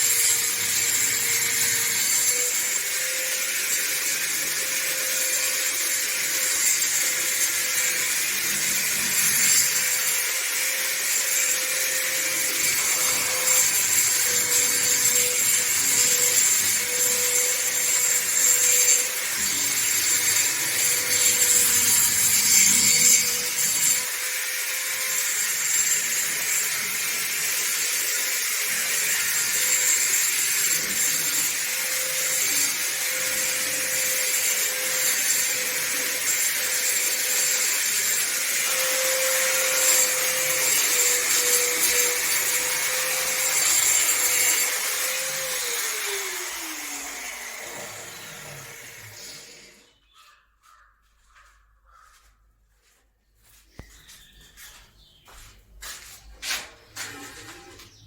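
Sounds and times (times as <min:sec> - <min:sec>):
power tool motor whining: 0:00.0 - 0:49.9.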